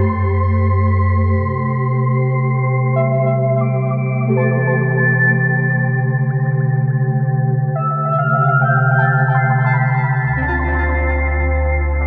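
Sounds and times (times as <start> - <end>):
background music of held chords: 0.0 - 12.0.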